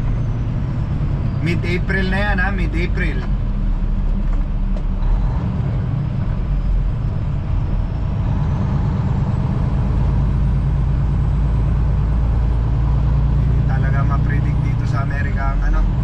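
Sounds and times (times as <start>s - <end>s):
road noise: 0.0s - 16.0s
truck diesel engine drone: 0.0s - 16.0s.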